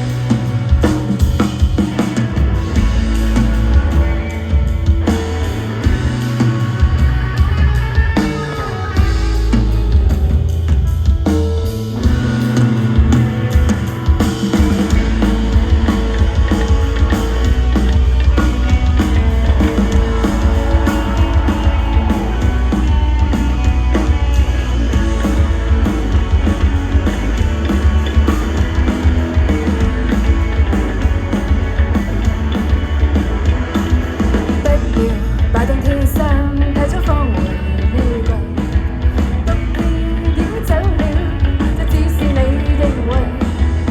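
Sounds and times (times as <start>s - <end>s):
drum kit: 0.0s - 43.9s
guitar: 0.0s - 43.9s
heavy bass line: 0.0s - 43.9s.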